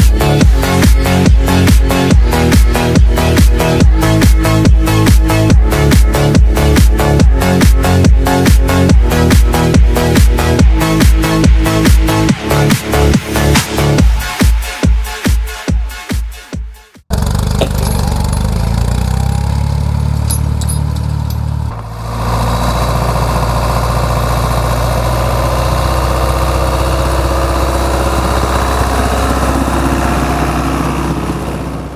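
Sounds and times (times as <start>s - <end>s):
tractor diesel engine running: 0.0s - 13.1s, 17.1s - 31.9s.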